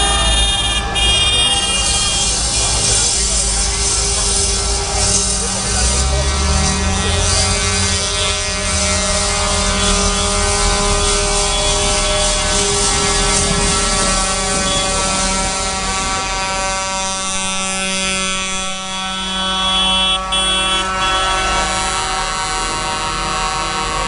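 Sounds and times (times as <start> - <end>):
steady pitched drone: 0.0 - 24.0
tractor engines passing: 0.0 - 24.0.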